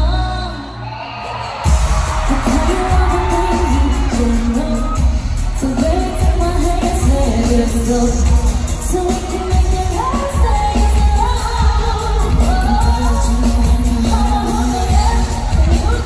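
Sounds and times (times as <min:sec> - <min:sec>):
woman singing: 0:00.0 - 0:16.0
heavy bass and drum beat: 0:01.3 - 0:16.0.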